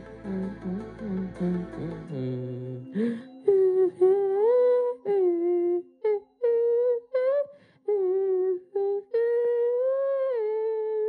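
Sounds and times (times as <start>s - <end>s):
boy humming: 0.3s - 11.0s.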